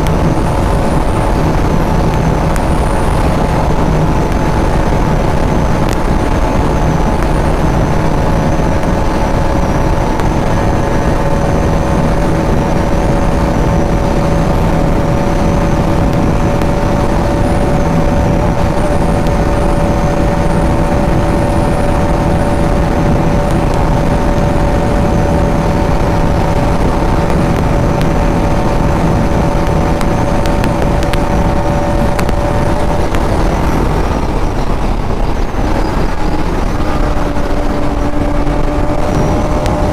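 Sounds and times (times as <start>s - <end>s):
motorcycle engine running flat out: 0.0s - 39.9s
wind and road noise: 0.0s - 39.9s.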